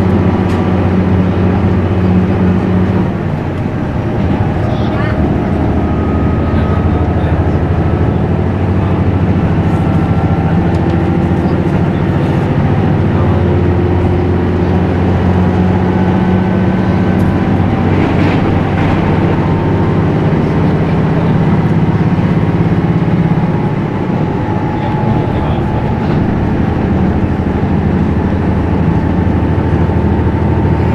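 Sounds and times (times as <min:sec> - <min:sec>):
train engine and wheels droning: 0:00.0 - 0:30.9.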